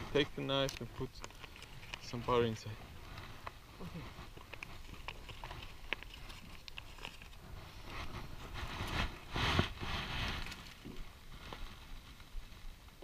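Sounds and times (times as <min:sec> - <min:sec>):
foil crinkling and rustling: 0:00.1 - 0:13.0.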